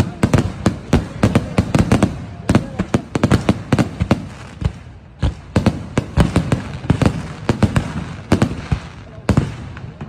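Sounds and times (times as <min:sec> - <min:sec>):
fireworks bangs with echo: 0:00.0 - 0:10.0.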